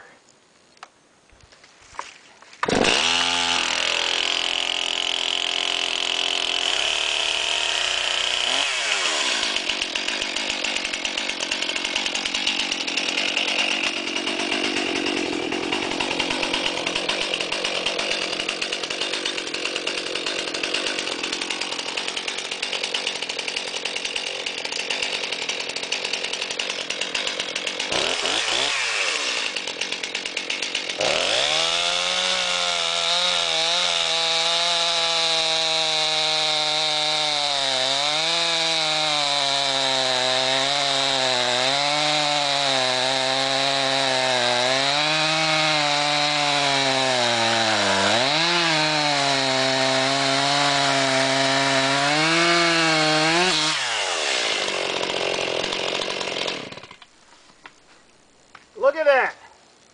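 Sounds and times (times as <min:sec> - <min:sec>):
chainsaw cutting log: 0:02.0 - 0:57.8
chainsaw engine revving: 0:02.6 - 0:57.0.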